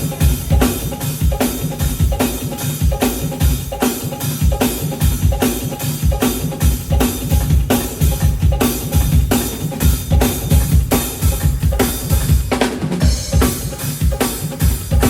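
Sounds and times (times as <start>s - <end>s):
drum kit groove: 0.0s - 15.0s
pitched backing music: 0.0s - 15.0s.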